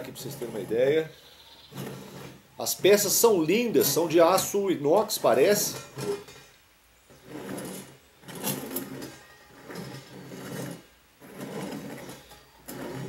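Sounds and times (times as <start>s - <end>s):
sheet metal scraping and rubbing: 0.0s - 13.0s.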